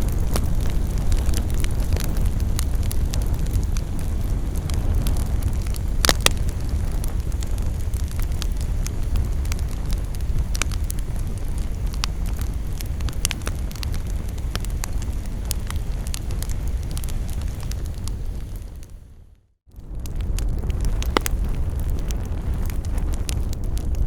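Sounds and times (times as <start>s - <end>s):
campfire crackling and popping: 0.0s - 19.1s, 19.7s - 24.0s
low steady fire rumble: 0.0s - 24.0s.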